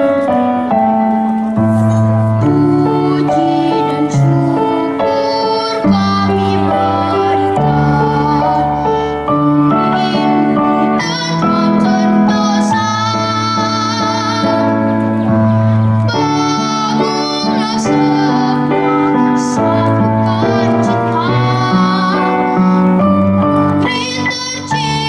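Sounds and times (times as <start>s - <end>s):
instrumental accompaniment: 0.0s - 25.0s
girl singing into a microphone: 1.7s - 25.0s.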